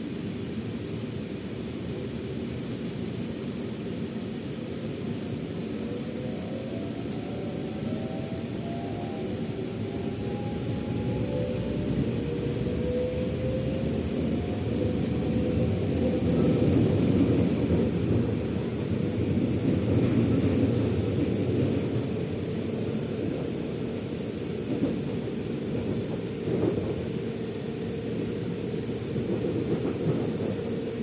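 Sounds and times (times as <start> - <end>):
faint steady whine: 0.0 - 31.0
train wheels rumbling on rails: 0.0 - 31.0.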